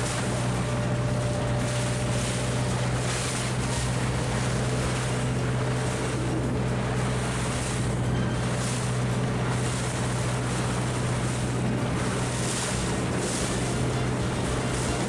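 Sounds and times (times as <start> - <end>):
water washing along hull: 0.0 - 15.0
wind buffeting microphone: 0.0 - 15.0
yacht engine humming: 0.0 - 15.0.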